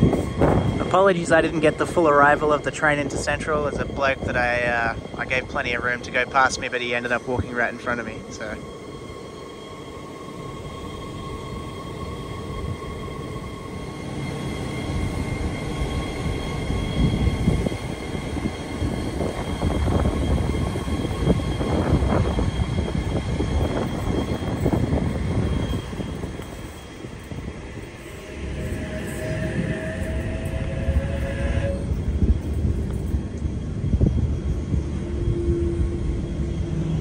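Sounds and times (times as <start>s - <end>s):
diesel locomotives idling drone: 0.0s - 37.0s
electric train rumble and wheel clatter: 0.0s - 37.0s.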